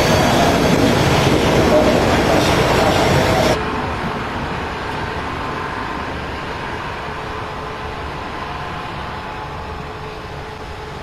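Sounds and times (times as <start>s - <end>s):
diesel railcar engine hum: 0.0s - 11.0s.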